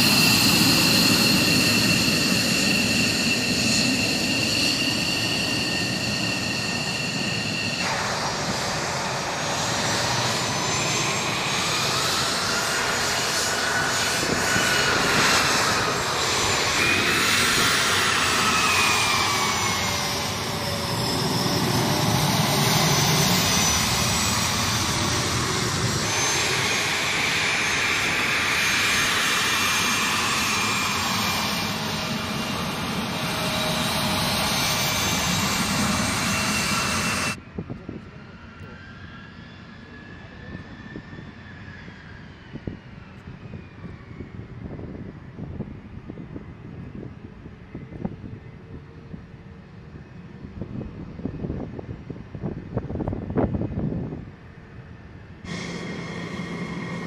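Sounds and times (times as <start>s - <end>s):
jet engines whining: 0.0s - 47.6s, 54.5s - 57.0s
turbofans with rising whine: 0.0s - 48.8s, 49.6s - 57.0s.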